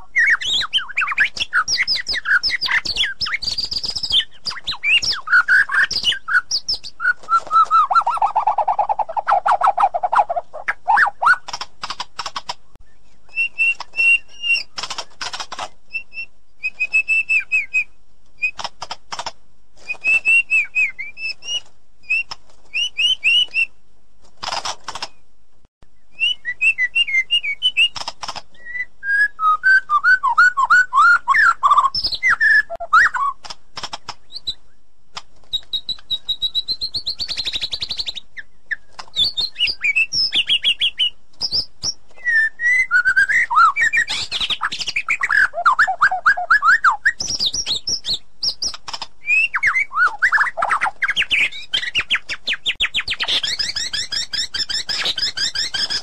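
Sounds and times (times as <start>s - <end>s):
songbird whistling and trilling: 0.0s - 11.6s, 12.8s - 15.2s, 15.9s - 18.6s, 19.8s - 23.8s, 26.0s - 33.4s, 35.5s - 56.0s.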